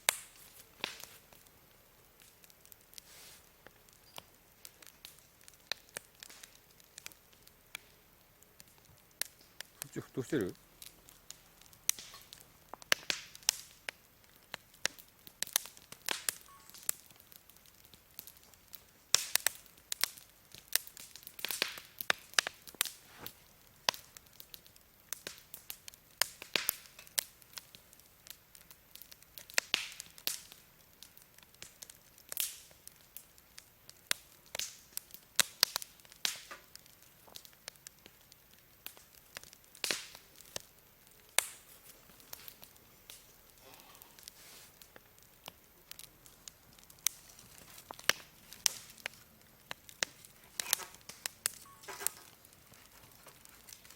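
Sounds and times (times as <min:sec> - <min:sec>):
campfire crackling and popping: 0:00.0 - 0:53.9
faint steady hiss: 0:00.0 - 0:53.9.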